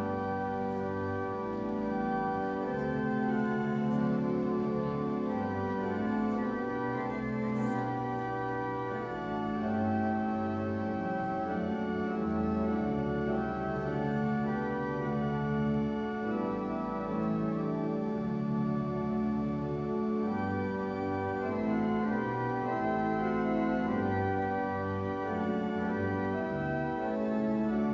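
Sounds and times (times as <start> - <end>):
church organ chords: 0.0 - 27.9.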